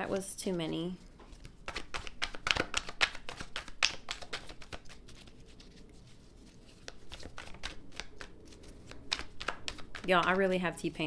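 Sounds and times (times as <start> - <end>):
cards being shuffled: 0.1 - 11.0.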